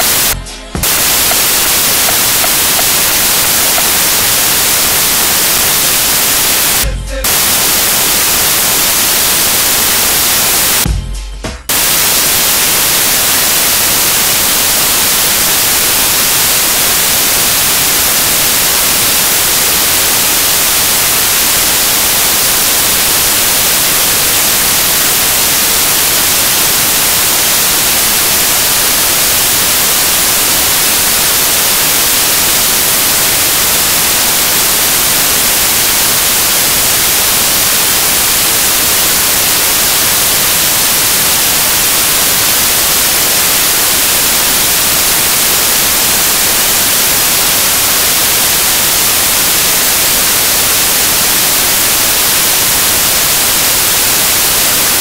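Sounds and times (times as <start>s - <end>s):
static hiss: 0.0s - 10.9s, 11.6s - 55.0s.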